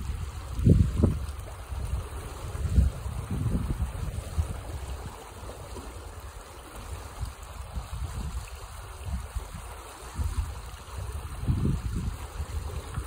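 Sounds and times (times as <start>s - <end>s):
water rushing along a channel: 0.0s - 13.0s
wind rumbling on microphone: 0.0s - 13.0s.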